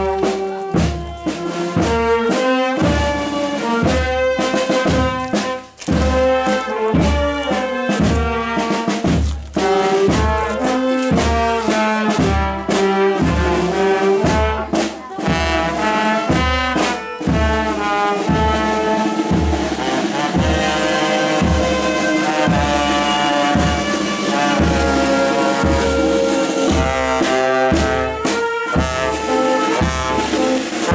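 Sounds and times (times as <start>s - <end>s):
brass band playing march: 0.0s - 30.9s.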